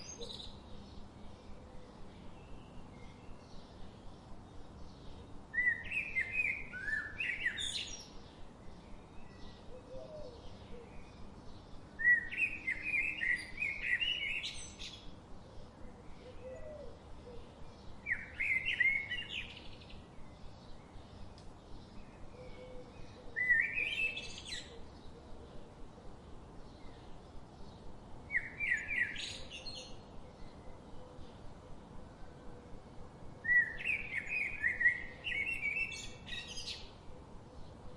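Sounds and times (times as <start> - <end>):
songbird singing: 0.0 - 37.9.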